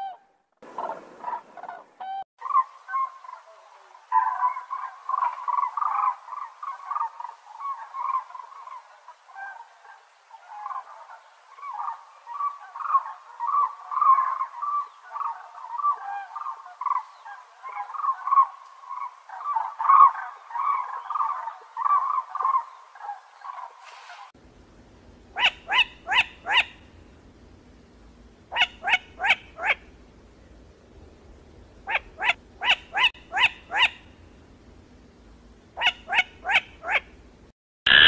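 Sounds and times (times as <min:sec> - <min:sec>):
cranes calling: 0:00.0 - 0:09.7, 0:10.4 - 0:24.3, 0:25.3 - 0:27.2, 0:28.5 - 0:30.0, 0:31.8 - 0:34.2, 0:35.8 - 0:37.2.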